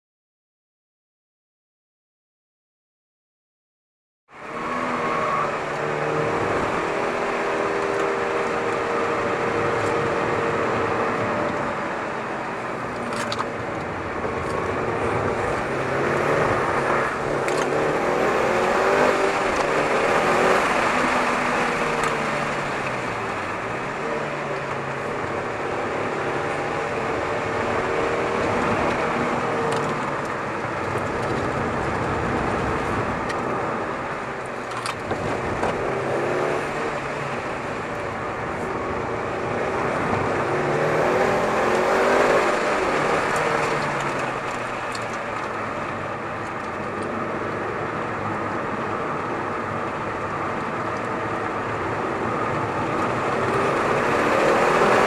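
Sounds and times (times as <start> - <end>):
wind and road noise: 4.3 - 55.0
car engine revving: 4.4 - 55.0.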